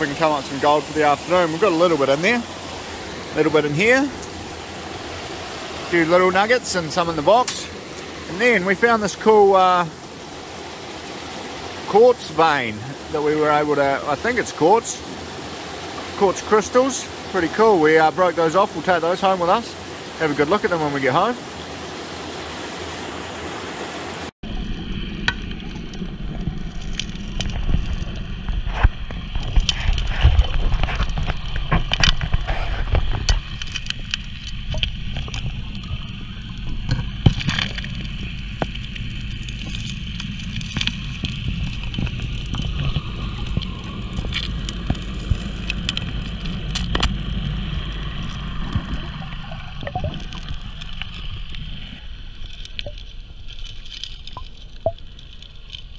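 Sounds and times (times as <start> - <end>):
underwater dredge rumble: 0.0 - 23.1, 24.4 - 55.9
stream water: 0.0 - 55.9.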